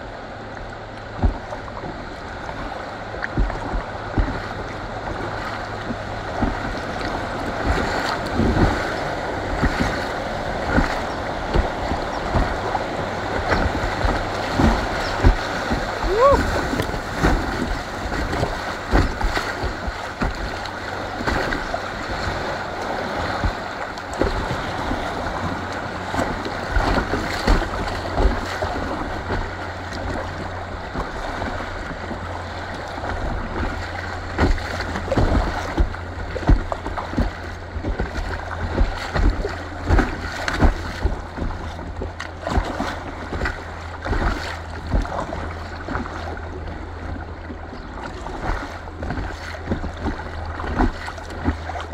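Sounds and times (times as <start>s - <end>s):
low rumble: 0.0s - 51.9s
river water rushing through rapids: 0.0s - 51.9s
water splashing against kayak hull: 0.0s - 51.9s.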